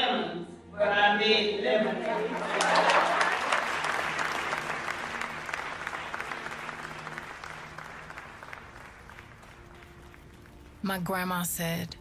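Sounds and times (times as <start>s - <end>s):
crowd applauding: 1.8s - 11.5s.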